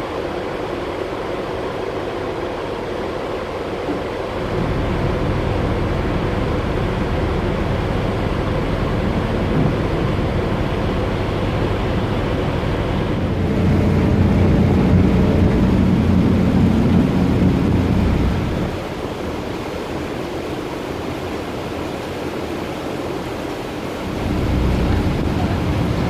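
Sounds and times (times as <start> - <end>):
ferry engines droning: 0.0 - 26.0
rushing noise: 4.5 - 26.0.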